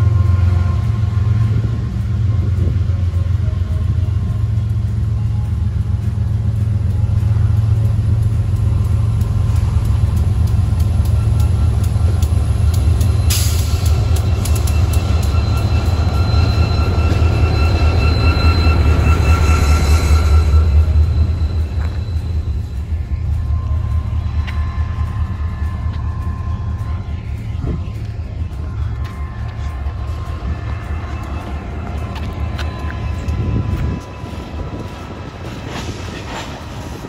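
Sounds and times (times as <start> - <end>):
freight train rumbling past: 0.0 - 37.0
wheels squealing: 0.0 - 37.0.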